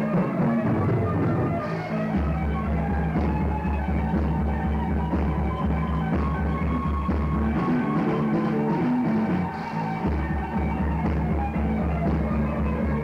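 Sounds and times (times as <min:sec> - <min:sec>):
bass guitar line: 0:00.0 - 0:13.0
drums playing: 0:00.0 - 0:13.0
electric guitar: 0:00.0 - 0:13.0.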